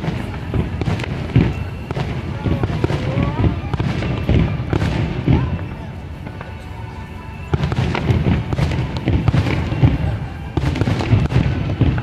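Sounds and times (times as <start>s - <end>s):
fireworks bangs and crackles: 0.0s - 12.0s
music: 0.0s - 12.0s.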